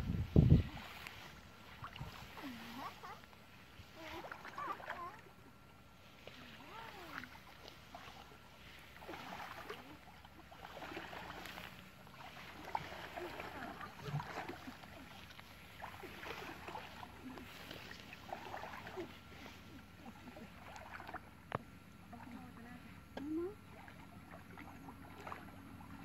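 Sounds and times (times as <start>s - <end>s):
muddy water sloshing: 0.0s - 26.0s.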